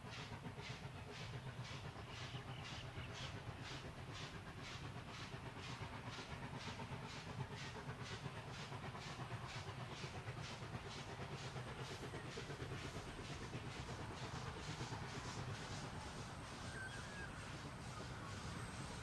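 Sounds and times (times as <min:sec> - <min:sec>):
steam locomotive chuffing: 0:00.0 - 0:19.0.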